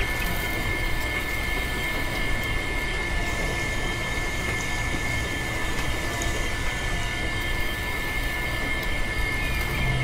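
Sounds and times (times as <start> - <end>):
small electric motor whining: 0.0 - 10.0.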